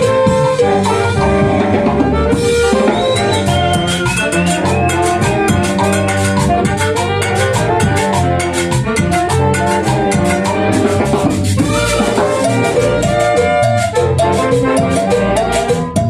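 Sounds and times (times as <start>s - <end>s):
band music with fast drum beat: 0.0s - 16.0s.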